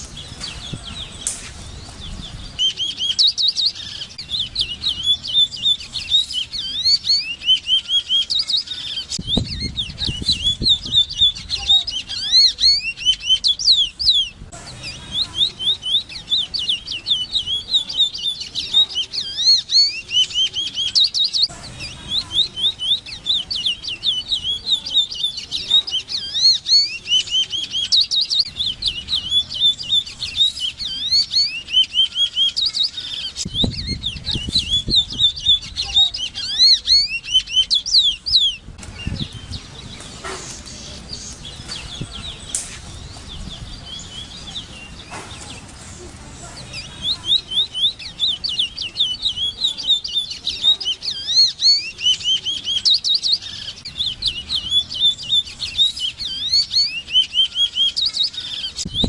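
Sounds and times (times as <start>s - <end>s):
bird singing high looping notes: 0.0s - 45.7s, 46.5s - 59.0s.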